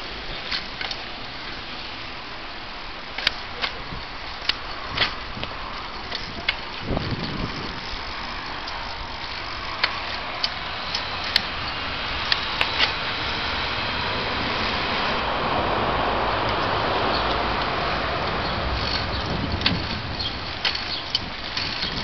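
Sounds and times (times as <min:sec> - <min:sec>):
bicycle rolling on pavement: 0:00.0 - 0:22.0.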